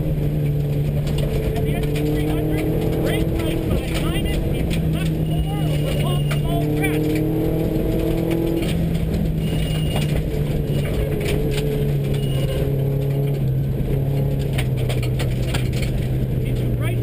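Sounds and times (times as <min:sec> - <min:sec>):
car engine running: 0:00.0 - 0:17.0
tyres rumbling on gravel: 0:00.0 - 0:17.0
clicks and rattles: 0:00.4 - 0:16.7.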